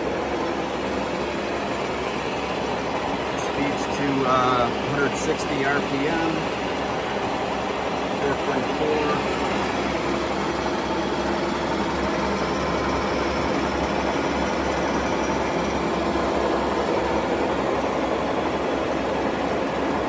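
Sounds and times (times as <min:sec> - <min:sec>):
heavy machinery humming: 0:00.0 - 0:20.0.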